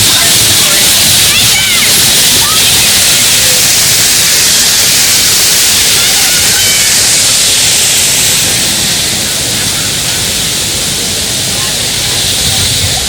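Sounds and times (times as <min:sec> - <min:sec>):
waterfall rushing over rock: 0:00.0 - 0:13.0.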